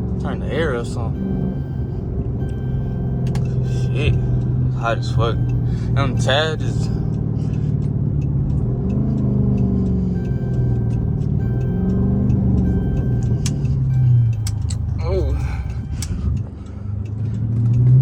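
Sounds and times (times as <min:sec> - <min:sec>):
car engine accelerating: 0:00.0 - 0:18.0
light regular ticking: 0:00.2 - 0:18.0.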